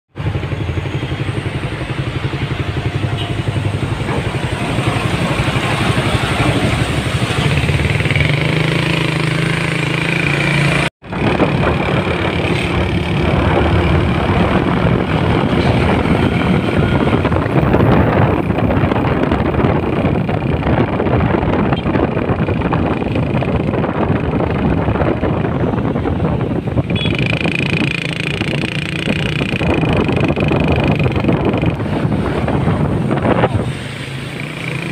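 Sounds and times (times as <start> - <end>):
motorbikes: 0.1 - 34.9
heavy diesel trucks passing: 0.2 - 34.9.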